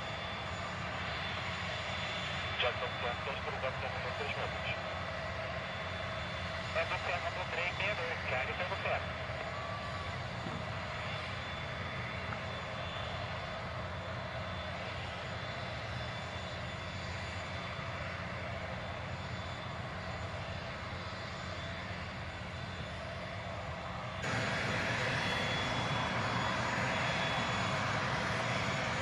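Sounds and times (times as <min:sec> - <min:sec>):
aircraft turbine idling: 0:00.0 - 0:29.0.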